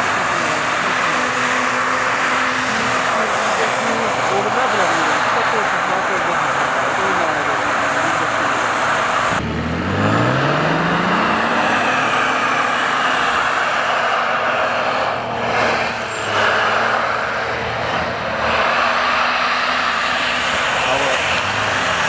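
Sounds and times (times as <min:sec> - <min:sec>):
engine revving under load: 0:00.0 - 0:22.0
tyres churning through snow: 0:00.0 - 0:22.0.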